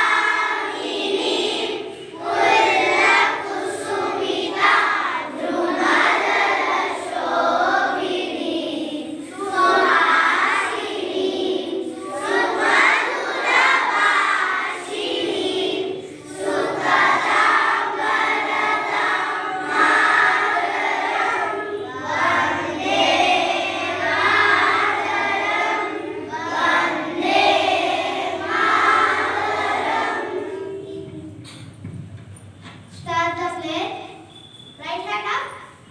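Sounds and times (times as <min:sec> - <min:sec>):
children singing in chorus: 0:00.0 - 0:31.7.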